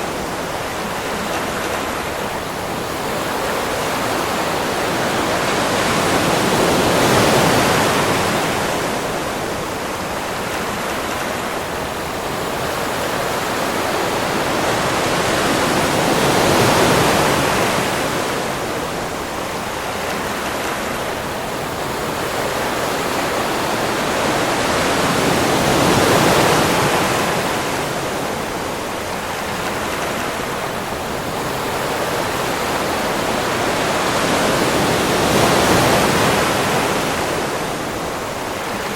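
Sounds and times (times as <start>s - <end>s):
ocean waves on a beach: 0.0s - 38.9s.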